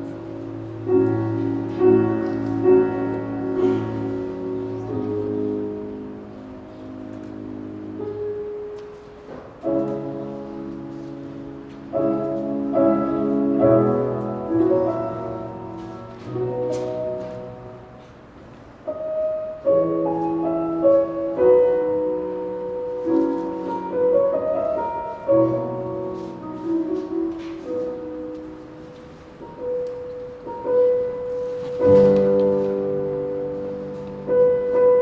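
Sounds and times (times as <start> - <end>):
slow piano chords: 0.0 - 35.0.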